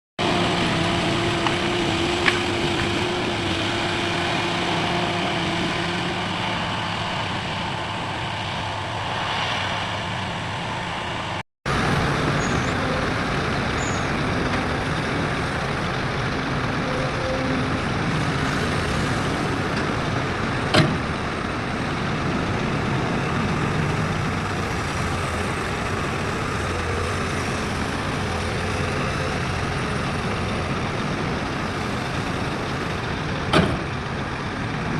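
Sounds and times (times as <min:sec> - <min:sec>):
diesel machinery running: 0:00.2 - 0:34.9.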